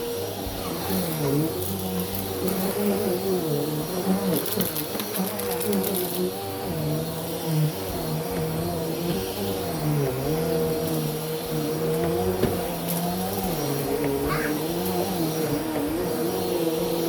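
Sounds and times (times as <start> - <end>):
vacuum cleaner running over carpet: 0.0 - 17.0.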